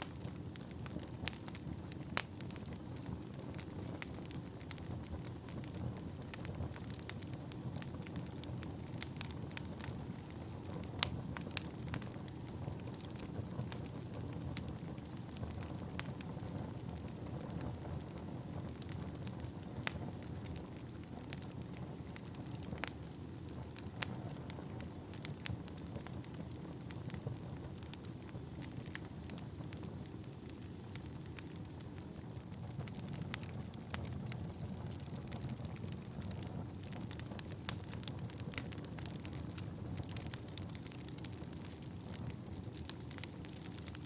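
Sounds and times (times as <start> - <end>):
burning logs crackling and popping: 0.0 - 44.0
low rumble of flames: 0.0 - 44.0.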